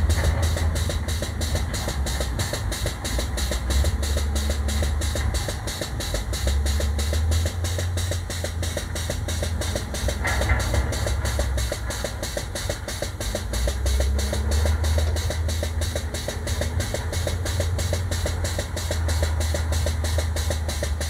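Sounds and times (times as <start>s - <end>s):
air-powered grease pump pumping: 0.0s - 21.0s
low engine hum: 0.0s - 21.0s.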